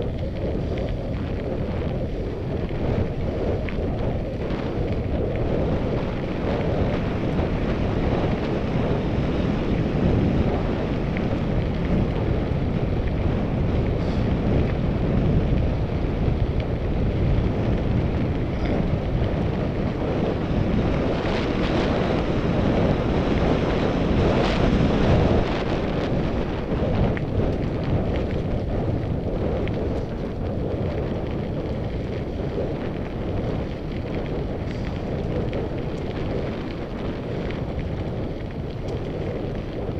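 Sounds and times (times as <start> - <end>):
bike rumbling and rattling: 0.0 - 39.9
wind on microphone: 0.0 - 39.9.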